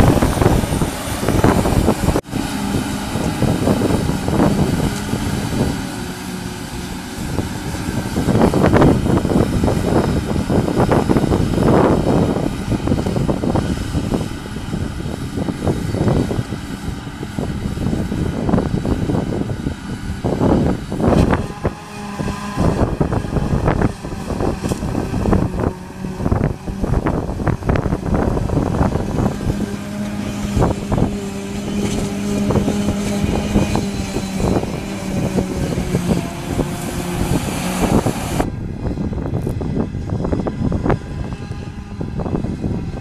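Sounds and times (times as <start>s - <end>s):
harvester and tractors running: 0.0s - 43.0s
steady machine hum: 0.0s - 43.0s
wind buffeting microphone: 0.0s - 43.0s.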